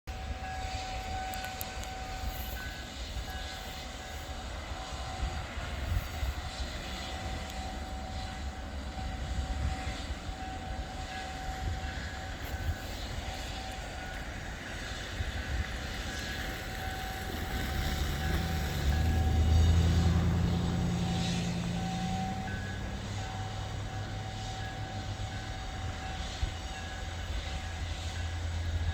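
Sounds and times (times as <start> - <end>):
distant diesel locomotive drone: 0.1 - 28.9.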